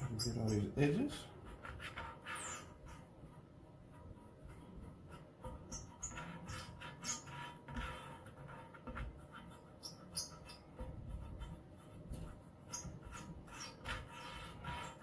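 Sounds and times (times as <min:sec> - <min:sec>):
fingertips squeaking on decal: 0:00.0 - 0:01.0, 0:01.8 - 0:03.1, 0:05.1 - 0:15.0.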